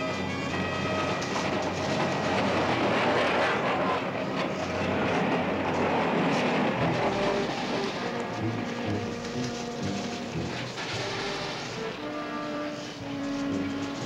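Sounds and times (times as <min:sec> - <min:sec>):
steam train passing: 0:00.0 - 0:14.0.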